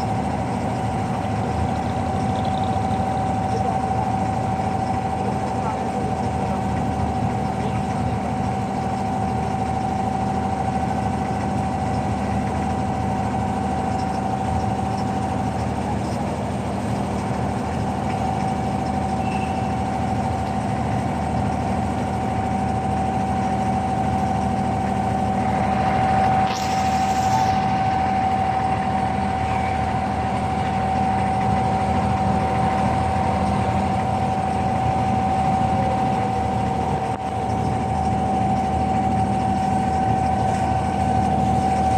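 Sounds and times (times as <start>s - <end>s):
boat diesel engine droning: 0.0s - 41.9s.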